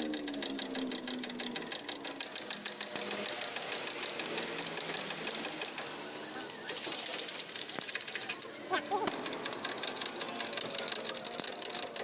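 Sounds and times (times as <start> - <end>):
machine rattling: 0.0 - 12.0.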